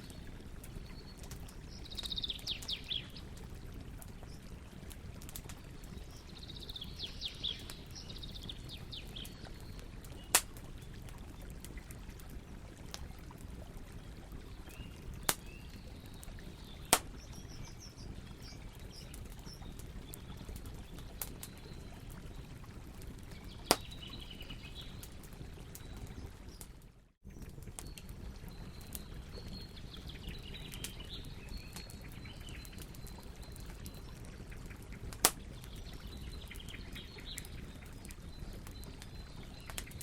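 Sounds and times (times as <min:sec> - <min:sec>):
campfire rumbling: 0:00.0 - 0:40.0
fire crackling pops: 0:00.0 - 0:40.0.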